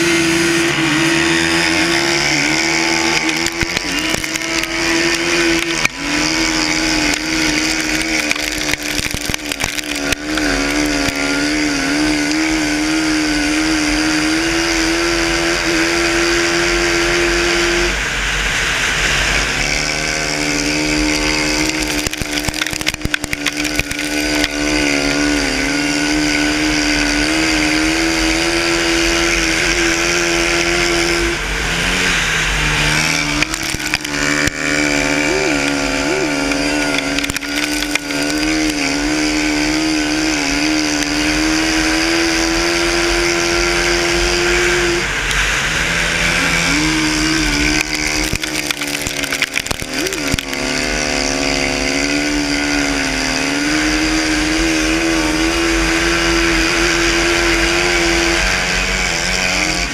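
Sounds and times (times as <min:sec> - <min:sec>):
quad engine at high revs: 0:00.0 - 0:59.9.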